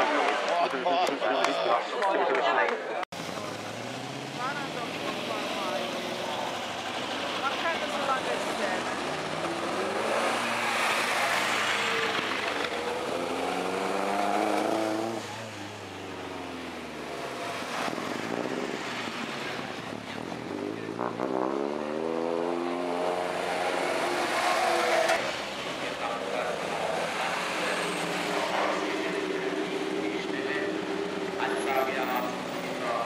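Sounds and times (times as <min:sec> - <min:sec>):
sports car engines revving: 0:03.2 - 0:33.0.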